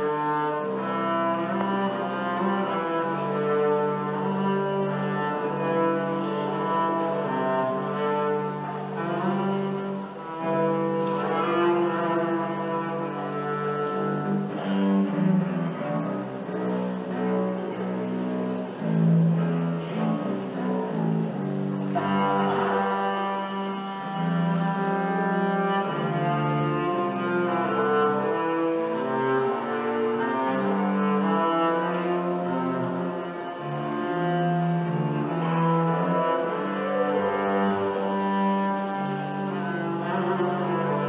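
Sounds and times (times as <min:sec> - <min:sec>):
bowed double bass duet: 0:00.0 - 0:41.0.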